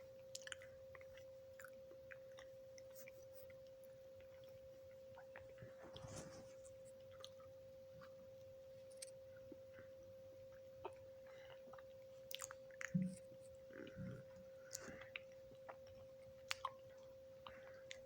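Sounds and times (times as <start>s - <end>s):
faint steady hum: 0.0s - 18.0s
person chewing: 0.3s - 8.2s, 10.6s - 18.0s.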